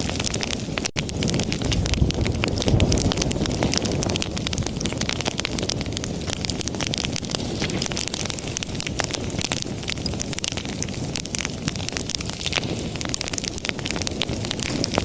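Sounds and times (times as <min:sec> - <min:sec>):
fire flames rumbling: 0:00.0 - 0:15.0
wood fire crackling and popping: 0:00.0 - 0:15.0.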